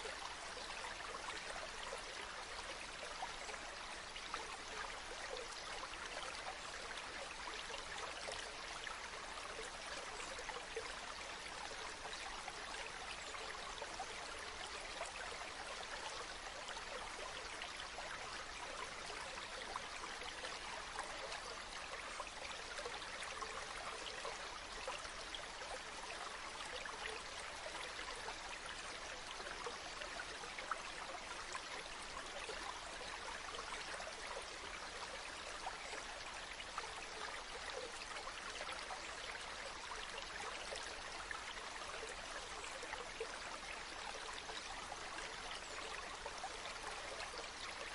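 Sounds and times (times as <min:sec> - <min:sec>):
stream flowing over stones: 0:00.0 - 0:47.9.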